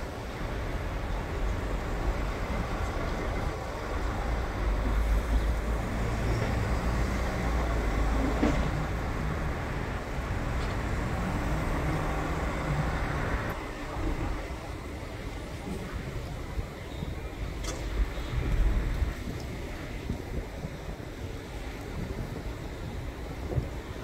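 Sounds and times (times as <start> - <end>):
traffic low rumble: 0.0 - 24.0.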